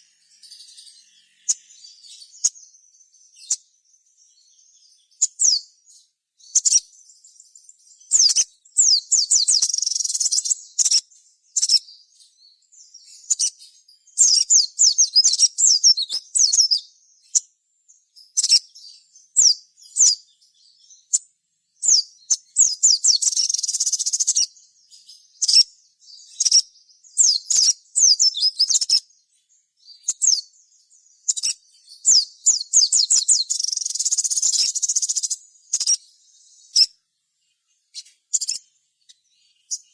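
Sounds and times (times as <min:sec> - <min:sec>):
bird chirping high-pitched song: 0:00.0 - 0:39.9.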